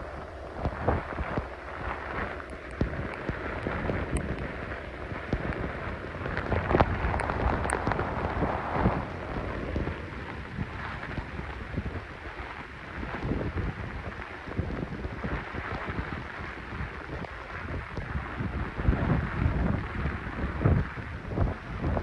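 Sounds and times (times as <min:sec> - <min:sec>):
heavy rain: 0:00.0 - 0:22.0
wind buffeting microphone: 0:00.0 - 0:22.0.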